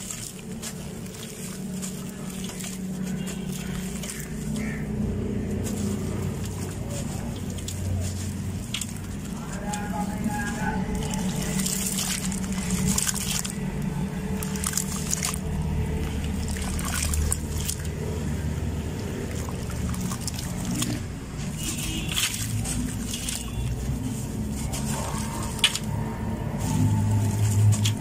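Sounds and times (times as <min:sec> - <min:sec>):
hands sloshing wet sand in water: 0:00.0 - 0:28.0
low steady hum: 0:00.0 - 0:28.0
dry sand pouring into water: 0:05.5 - 0:28.0.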